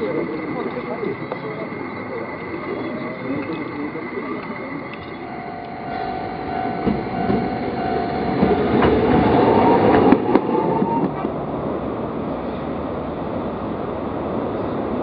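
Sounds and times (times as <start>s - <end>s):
road traffic rushing: 0.0s - 15.0s
tram motor whine: 0.0s - 15.0s.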